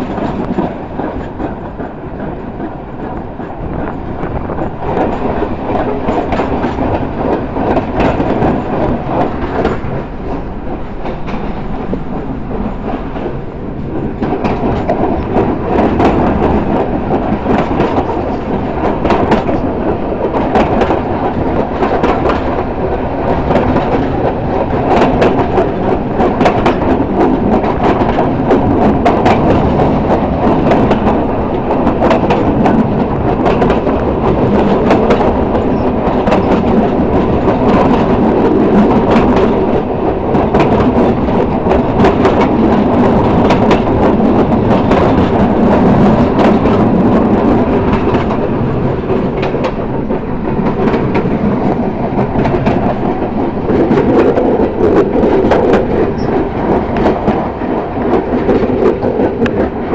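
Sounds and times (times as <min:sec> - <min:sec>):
train rumbling on track: 0:00.0 - 0:59.9
wheels clacking on rails: 0:00.0 - 0:59.9.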